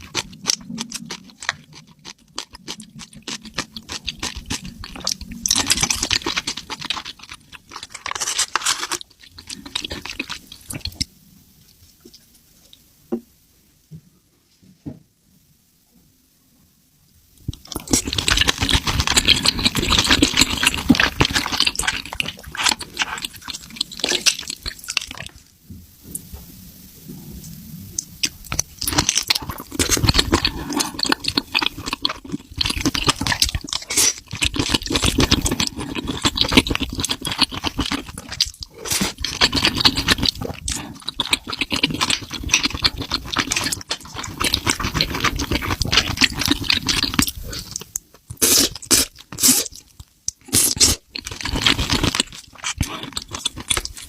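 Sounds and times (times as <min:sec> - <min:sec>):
person chewing food: 0:00.0 - 0:11.1, 0:17.4 - 0:25.4, 0:28.0 - 0:54.0.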